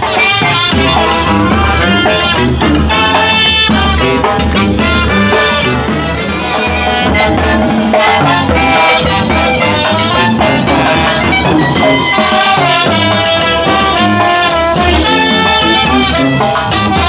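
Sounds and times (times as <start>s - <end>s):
brass band playing latin tune: 0.0s - 17.0s.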